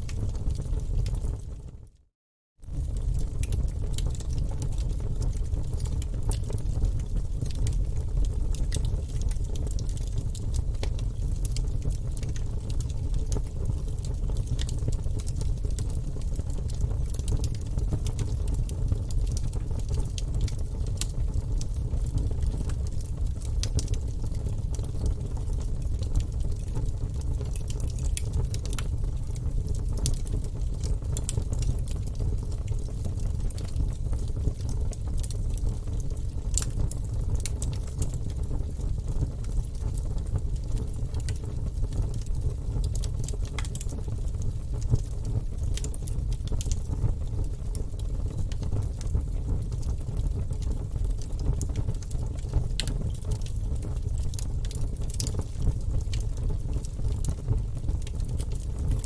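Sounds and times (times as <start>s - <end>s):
flames rumbling in fireplace: 0.0s - 1.7s, 2.6s - 59.0s
logs crackling and popping: 2.8s - 47.7s, 48.6s - 58.4s.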